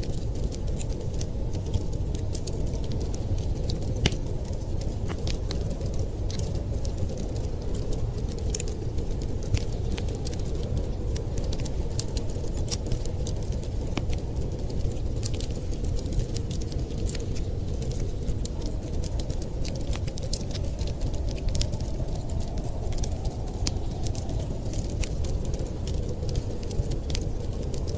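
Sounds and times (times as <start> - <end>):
fire crackling and popping: 0.0 - 27.9.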